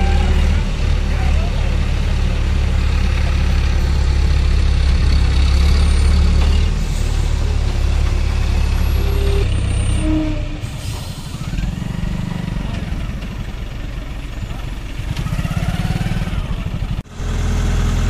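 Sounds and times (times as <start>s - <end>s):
crane diesel engine running: 0.0s - 18.0s.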